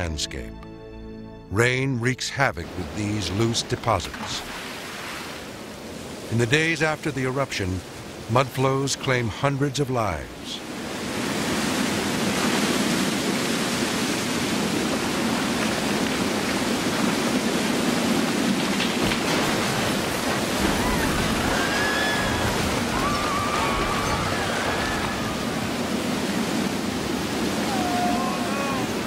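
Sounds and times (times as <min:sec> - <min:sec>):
mud torrent rushing: 0:01.5 - 0:29.0.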